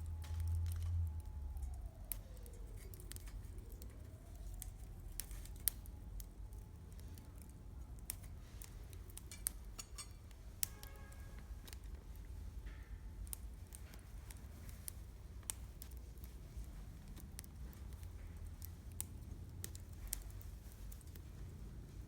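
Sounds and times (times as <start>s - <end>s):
campfire crackling and popping: 0.0s - 11.0s, 13.2s - 22.0s
low steady rumble: 0.0s - 22.0s.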